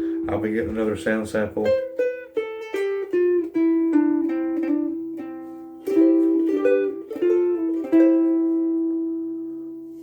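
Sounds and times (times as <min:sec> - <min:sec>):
fingerpicked ukulele melody: 0:00.0 - 0:10.0.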